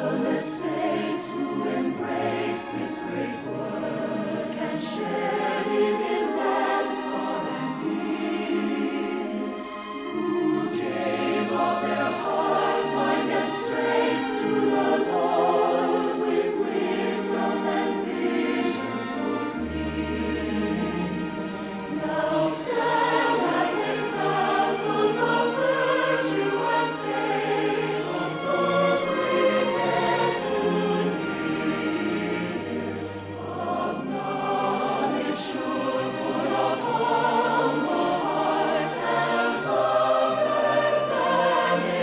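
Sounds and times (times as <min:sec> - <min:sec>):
choir singing a hymn: 0:00.0 - 0:42.0
orchestral accompaniment: 0:00.0 - 0:42.0.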